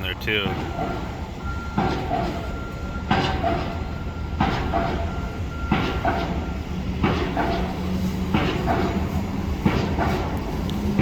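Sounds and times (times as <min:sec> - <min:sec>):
heavy machinery rumbling: 0:00.0 - 0:11.0.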